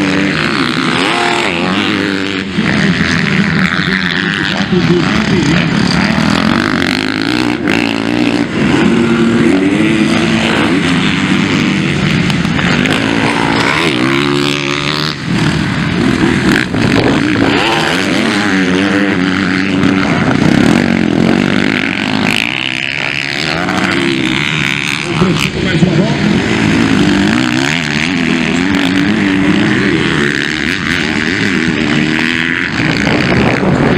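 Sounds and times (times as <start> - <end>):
motocross bike engines revving: 0.0 - 33.9.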